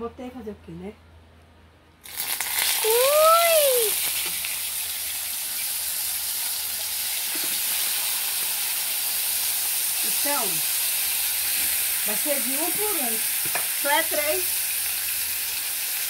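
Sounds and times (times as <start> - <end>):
fish sizzling in hot oil: 2.0 - 16.0.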